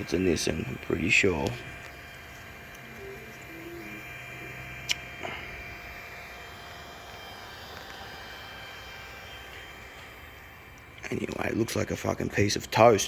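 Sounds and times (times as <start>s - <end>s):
printer cooling fans whirring: 0.0s - 13.0s
stepper motor tones: 0.0s - 13.0s.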